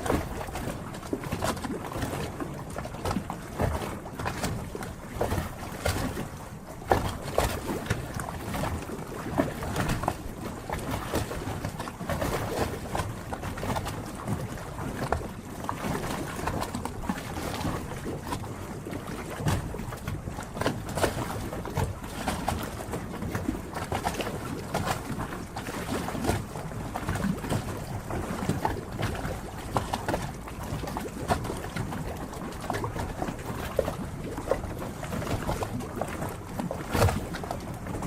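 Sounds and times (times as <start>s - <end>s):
water lapping against boats: 0.0s - 38.0s.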